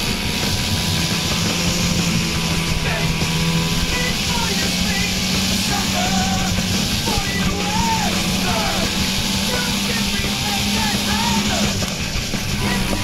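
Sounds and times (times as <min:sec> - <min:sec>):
rock band playing: 0:00.0 - 0:13.0
winding melody line: 0:00.3 - 0:13.0.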